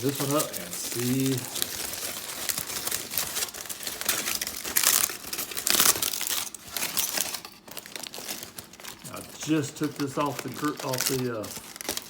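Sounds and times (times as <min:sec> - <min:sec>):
foil crinkling: 0:00.0 - 0:12.0.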